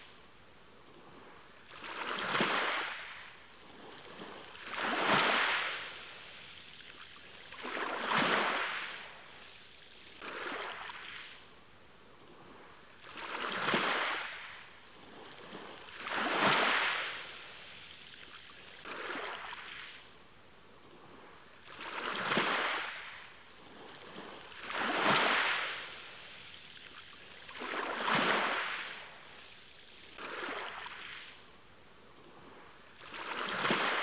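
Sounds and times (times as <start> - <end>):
waves washing onto shore: 0.9 - 34.0.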